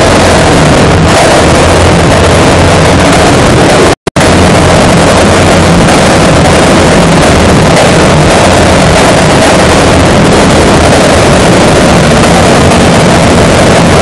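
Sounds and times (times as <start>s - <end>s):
motorcycle engine running loudly: 0.0s - 14.0s.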